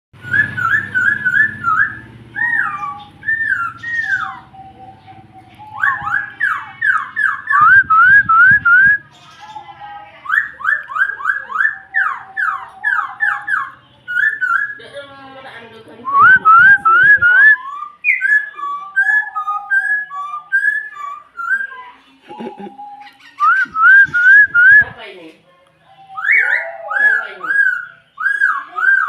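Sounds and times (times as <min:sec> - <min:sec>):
bird singing whistled phrases: 0:00.2 - 0:14.8, 0:16.0 - 0:22.0, 0:22.6 - 0:25.0, 0:25.9 - 0:29.0.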